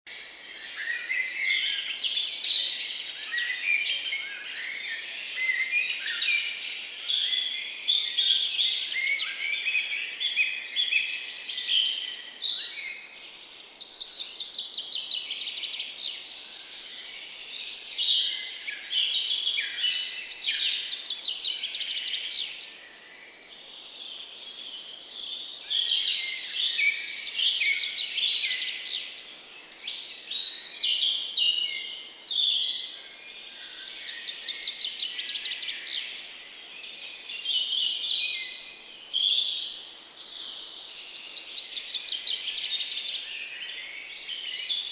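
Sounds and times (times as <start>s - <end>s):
birds chirping and trilling: 0.1s - 44.9s.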